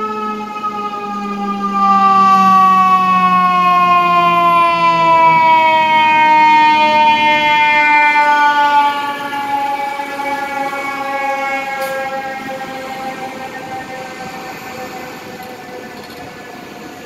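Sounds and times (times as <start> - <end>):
fire engine siren wailing: 0.0 - 17.0.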